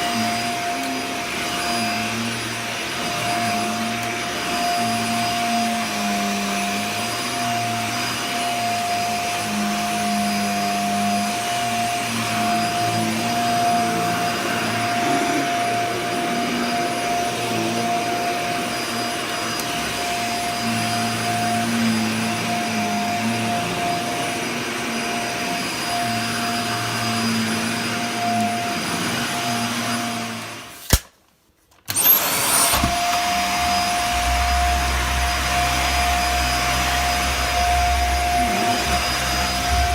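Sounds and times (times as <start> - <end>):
vacuum cleaner running: 0.0 - 31.1, 31.9 - 39.9.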